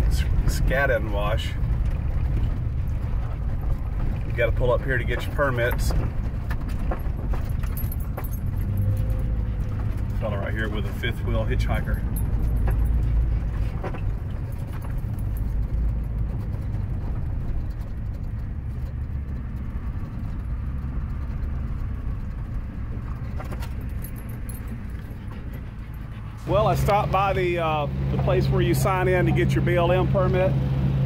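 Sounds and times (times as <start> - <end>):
vehicle rumbling over gravel: 0.0 - 31.0.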